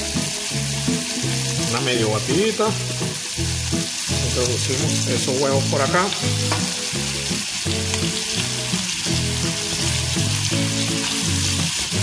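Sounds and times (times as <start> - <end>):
eggs sizzling in a wok: 0.0 - 12.0.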